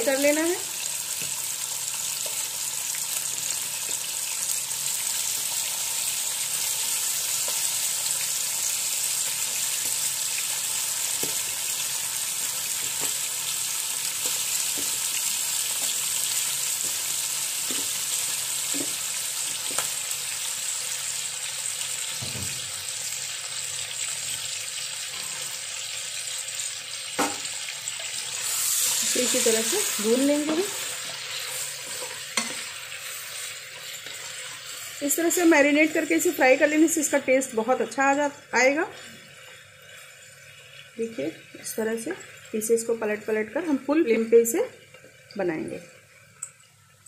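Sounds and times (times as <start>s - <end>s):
chicken sizzling in oil: 0.0s - 47.0s.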